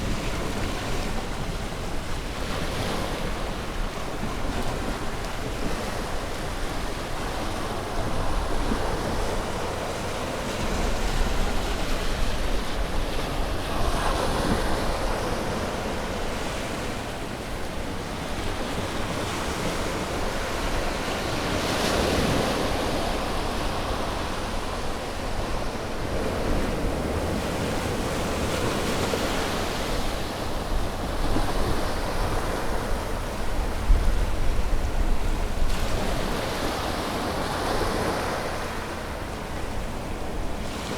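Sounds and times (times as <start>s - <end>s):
sea waves breaking on beach: 0.0s - 40.9s
wind rumble on microphone: 0.0s - 40.9s.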